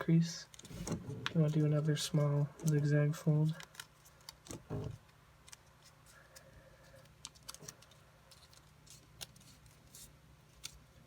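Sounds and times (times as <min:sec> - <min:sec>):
paper being folded and creased: 0:00.5 - 0:10.8.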